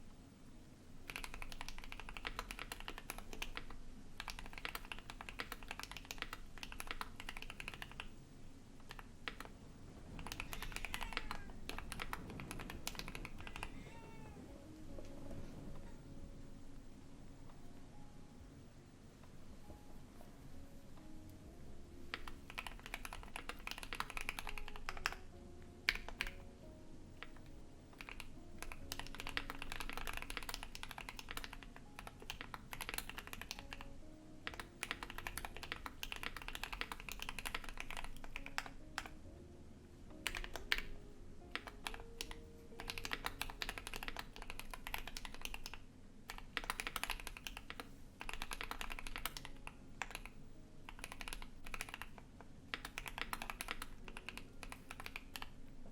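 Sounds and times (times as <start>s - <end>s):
mechanical keyboard typing: 1.0s - 16.0s, 22.0s - 39.3s, 40.1s - 55.9s.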